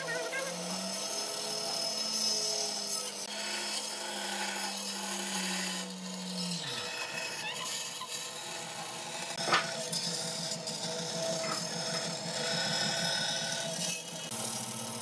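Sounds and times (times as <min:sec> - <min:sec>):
bandsaw cutting wood: 0:00.0 - 0:15.0.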